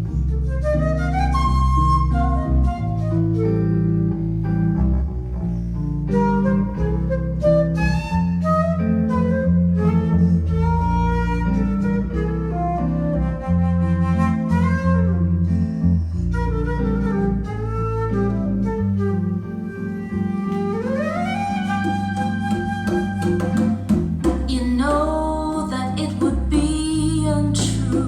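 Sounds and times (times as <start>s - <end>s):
deep bass line: 0.0s - 28.0s
guitar: 0.0s - 28.0s
flute melody: 0.1s - 4.4s, 5.9s - 24.6s.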